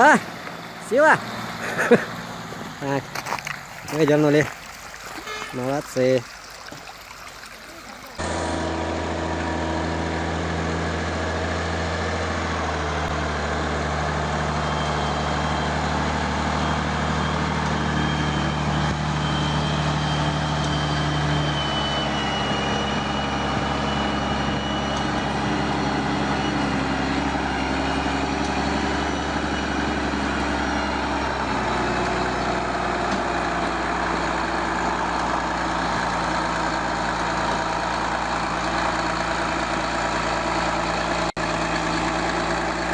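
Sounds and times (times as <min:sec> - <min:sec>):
heavy vehicle engine running: 0:00.0 - 0:04.4, 0:07.8 - 0:42.9.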